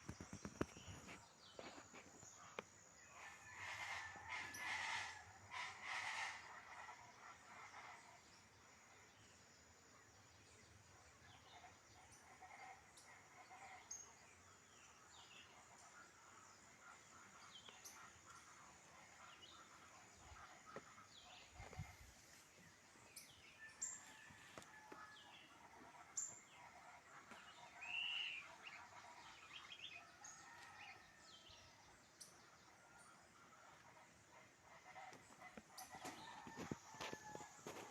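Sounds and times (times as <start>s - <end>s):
forest birds chirping: 0.0s - 37.9s.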